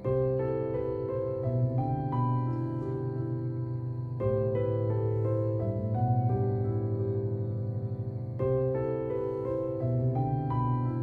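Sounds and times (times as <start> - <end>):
keyboard melody: 0.0 - 11.0.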